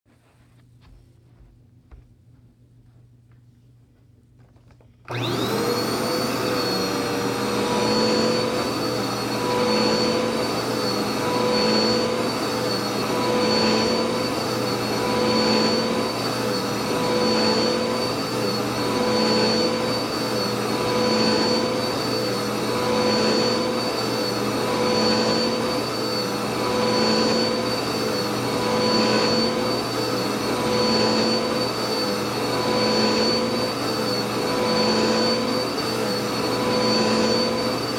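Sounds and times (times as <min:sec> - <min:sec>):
vacuum cleaner motor whine: 0:04.6 - 0:37.9.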